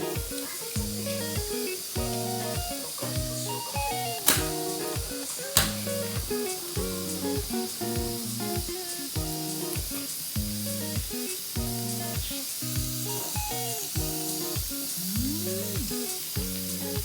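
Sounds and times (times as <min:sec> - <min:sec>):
background music with a beat: 0:00.0 - 0:17.0
meat sizzling on a skillet: 0:00.0 - 0:17.0.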